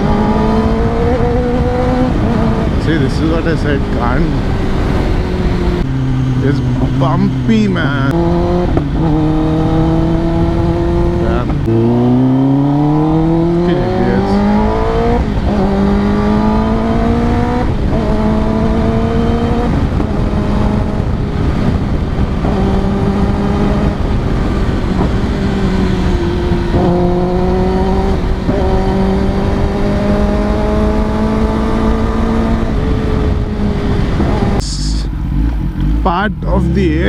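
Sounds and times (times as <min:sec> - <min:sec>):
motorcycle engine revving: 0:00.0 - 0:37.0
wind and road noise: 0:00.0 - 0:37.0.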